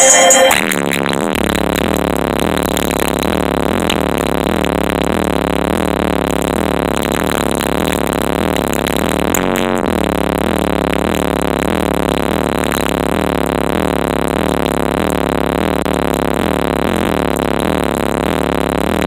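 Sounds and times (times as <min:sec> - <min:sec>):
loud bass-heavy car stereo music: 0:00.0 - 0:19.0.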